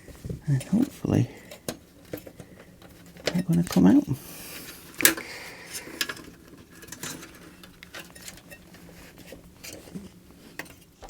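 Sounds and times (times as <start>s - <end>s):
metal clips clicking and scraping: 0.6s - 11.0s.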